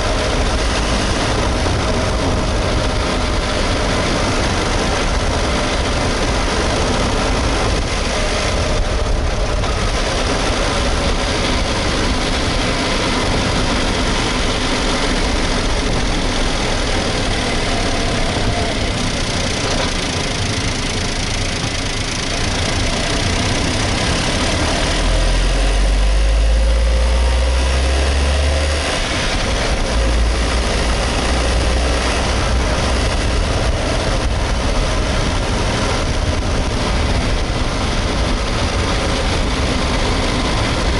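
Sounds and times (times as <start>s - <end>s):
small car engine running: 0.0s - 40.9s.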